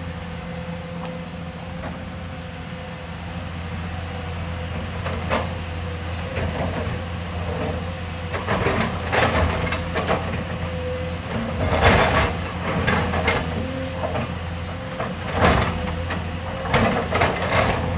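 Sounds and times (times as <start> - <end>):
excavator diesel engine running: 0.0 - 17.9
hydraulic whine: 0.0 - 17.9.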